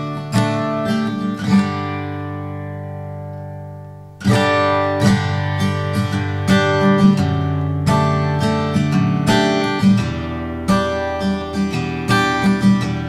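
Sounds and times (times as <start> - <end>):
picked acoustic guitar: 0.0 - 13.0.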